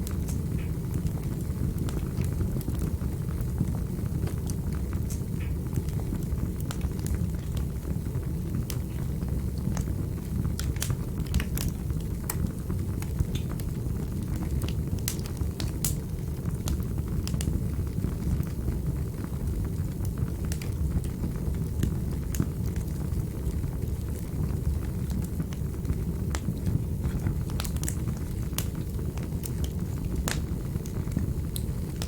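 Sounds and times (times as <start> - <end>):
fire crackling and popping: 0.0 - 32.0
fire low rumble: 0.0 - 32.0.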